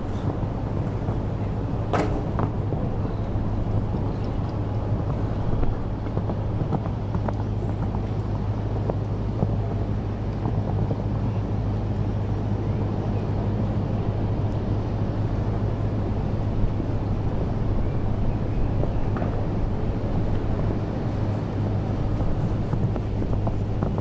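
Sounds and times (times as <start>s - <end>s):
low wind rumble on microphone: 0.0s - 24.0s.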